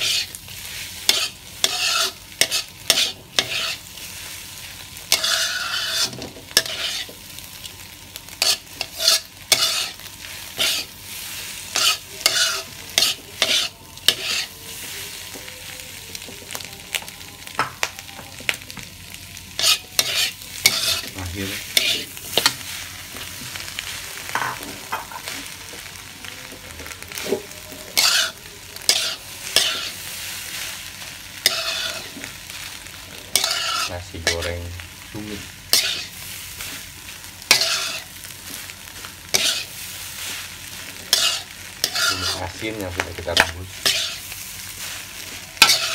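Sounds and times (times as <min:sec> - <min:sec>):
spatula scraping a wok: 0:00.0 - 0:07.5, 0:08.2 - 0:15.4, 0:19.4 - 0:25.5, 0:27.1 - 0:45.9
food sizzling: 0:00.0 - 0:45.9.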